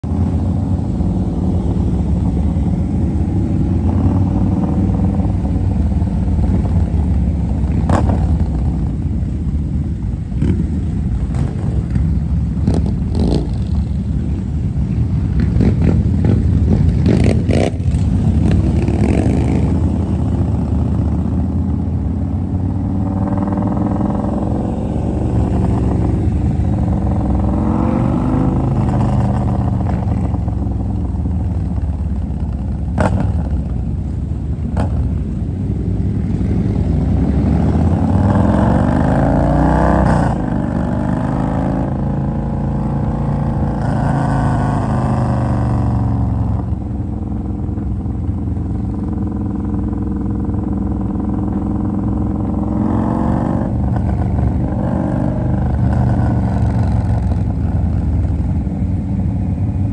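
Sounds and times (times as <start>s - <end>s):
motorcycle engines: 0.0s - 59.9s.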